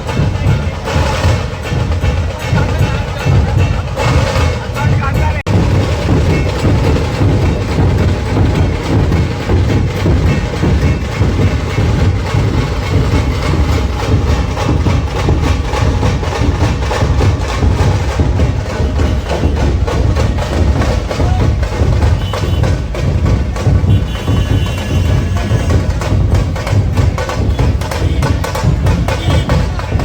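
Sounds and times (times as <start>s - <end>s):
drum-heavy music: 0.0s - 30.0s.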